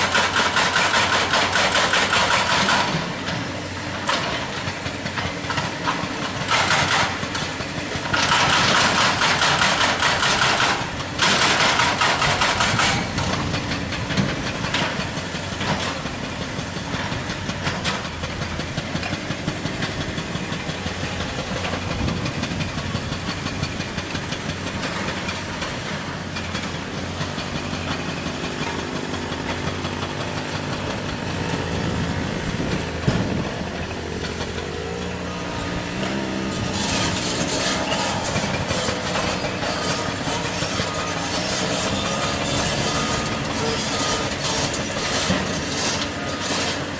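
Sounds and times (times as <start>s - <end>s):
diesel engine running: 0.0s - 46.9s
hydraulic breaker hammering rock: 0.0s - 46.9s.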